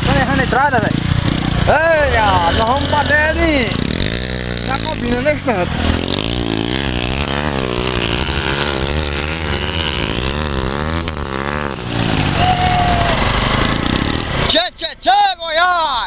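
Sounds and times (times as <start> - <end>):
vehicle engine revving: 0.0 - 14.8.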